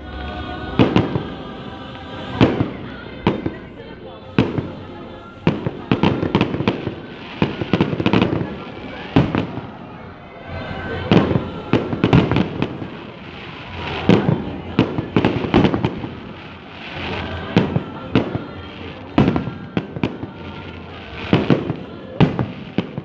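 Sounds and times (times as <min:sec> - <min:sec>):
fireworks bursting with bangs: 0:00.0 - 0:23.0.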